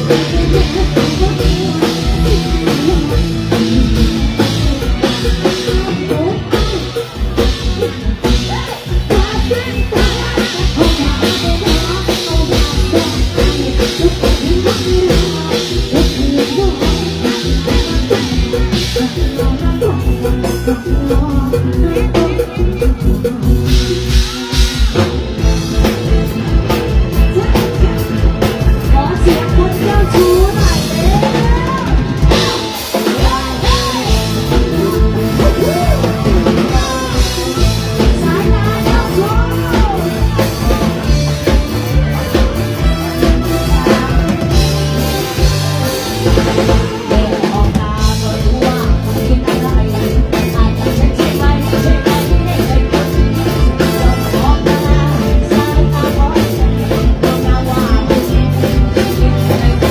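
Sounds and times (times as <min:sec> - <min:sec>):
bass: 0:00.0 - 0:59.9
drum kit fast beat: 0:00.0 - 0:59.9
gliding lead melody: 0:00.0 - 0:59.9
live band music through pa: 0:00.0 - 0:59.9.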